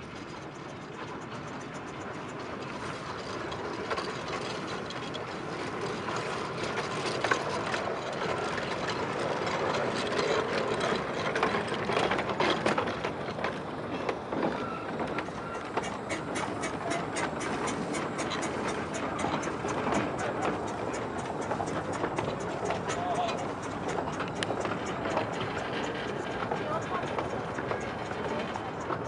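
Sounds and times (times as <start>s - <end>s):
miniature train clattering on rails: 0.0s - 29.0s.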